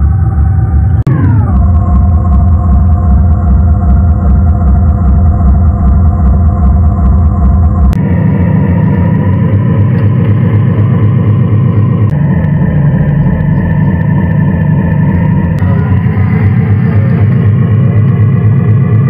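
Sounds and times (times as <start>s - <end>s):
faint high whine: 0.0s - 19.0s
simulated engine rumble: 0.0s - 19.0s.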